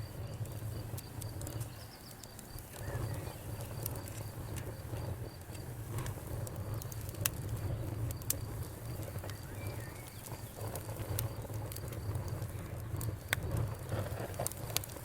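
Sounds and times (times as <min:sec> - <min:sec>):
fire pops and snaps: 0:00.0 - 0:15.0
wood fire crackling: 0:00.0 - 0:15.0.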